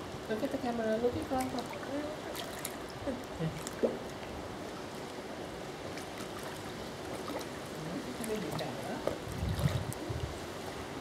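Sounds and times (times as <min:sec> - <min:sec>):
pool water lapping and sloshing: 0:00.2 - 0:11.0.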